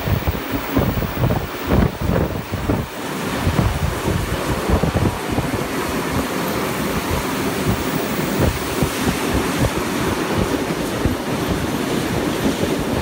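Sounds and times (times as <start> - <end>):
train running at speed: 0.0 - 13.0
wind buffeting microphone: 0.0 - 13.0.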